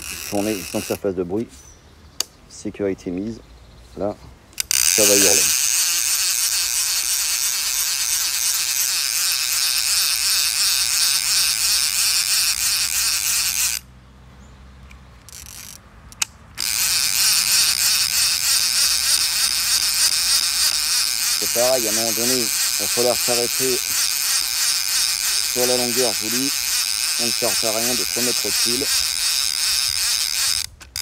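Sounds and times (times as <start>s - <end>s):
fishing reel ratchet clicking: 0.0s - 1.1s, 4.6s - 13.9s, 15.2s - 31.0s.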